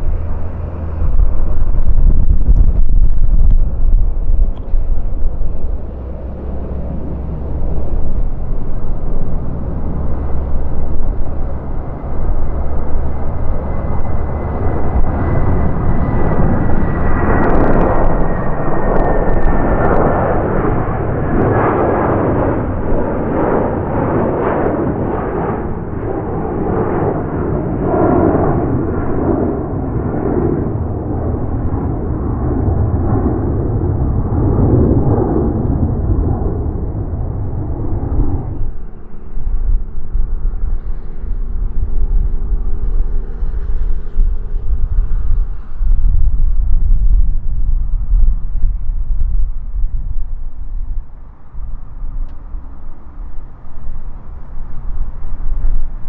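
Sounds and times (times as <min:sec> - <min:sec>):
high whine dropping in pitch: 0:00.0 - 0:56.0
jet engines roaring: 0:00.0 - 0:56.0.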